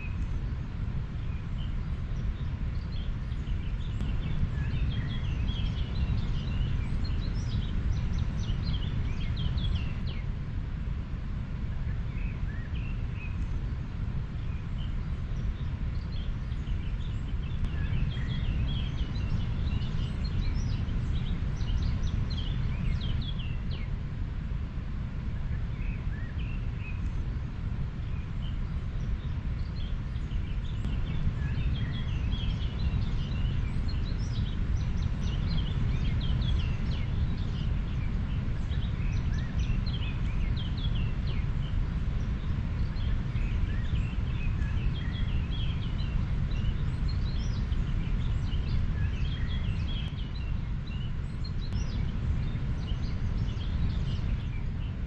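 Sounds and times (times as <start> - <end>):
small birds chirping: 0.0 - 10.4, 11.6 - 24.0, 25.0 - 55.0.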